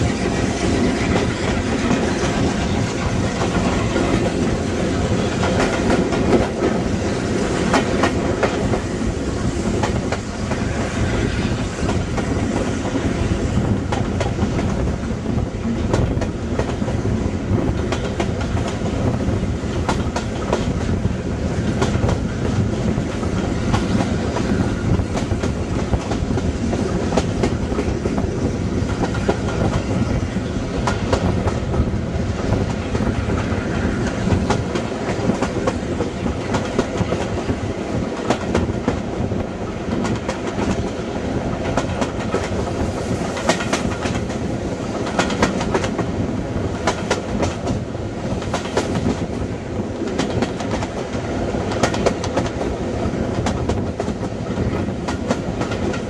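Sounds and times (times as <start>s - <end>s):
steam train rumbling: 0.0s - 56.0s.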